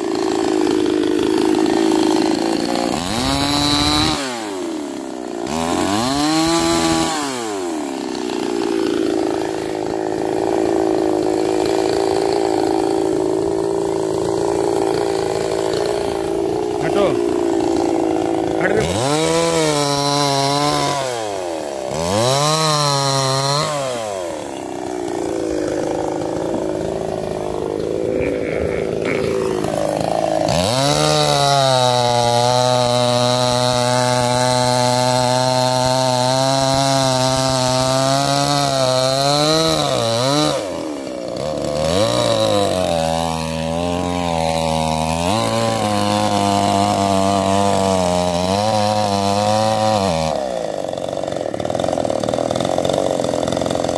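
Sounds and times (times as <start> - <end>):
chainsaw cutting log: 0.0 - 53.9
chainsaw engine revving: 0.0 - 53.9.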